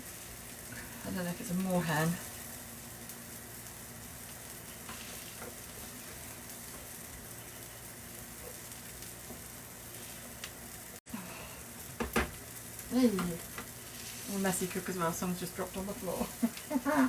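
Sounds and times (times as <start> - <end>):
beans sizzling in a frying pan: 0.0 - 17.0.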